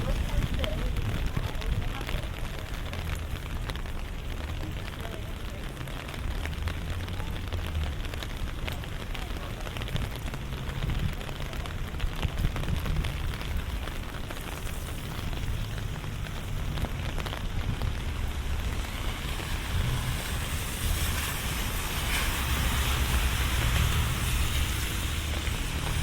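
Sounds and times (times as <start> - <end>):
car passing on wet pavement: 0.0 - 26.0
low traffic rumble: 0.0 - 26.0
raindrops ticking on street: 0.0 - 26.0.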